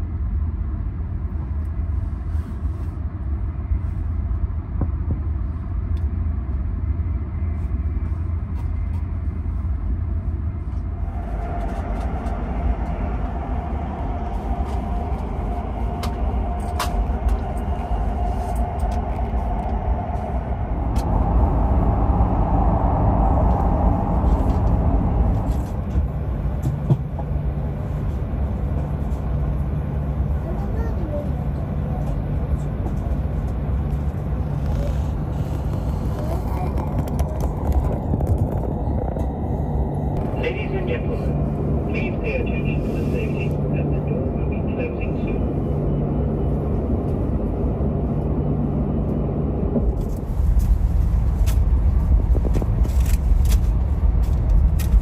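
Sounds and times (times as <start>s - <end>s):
train low rumble: 0.0s - 55.0s
higher hum: 9.8s - 55.0s.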